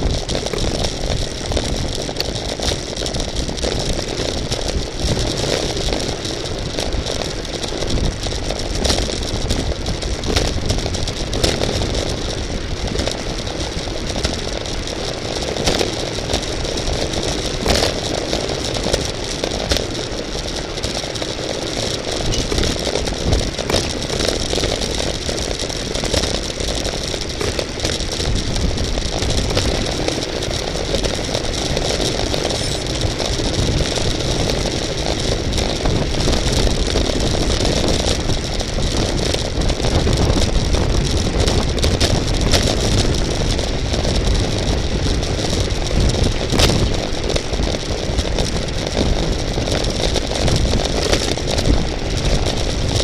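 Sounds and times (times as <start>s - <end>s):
bicycle tyre noise: 0.0s - 53.0s
bike rattling clicks: 0.0s - 53.0s
wind rushing over microphone: 0.0s - 53.0s.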